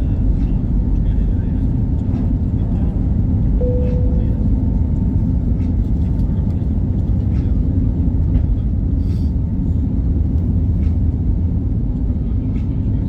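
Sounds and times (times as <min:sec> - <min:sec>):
low rumble of jet engines: 0:00.0 - 0:13.0.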